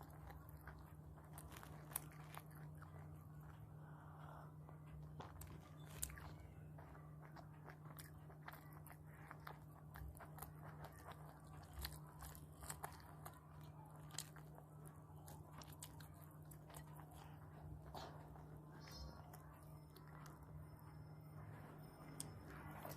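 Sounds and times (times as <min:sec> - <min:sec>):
chewing and crunching food: 0:00.0 - 0:22.9
steady low hum: 0:00.0 - 0:22.9.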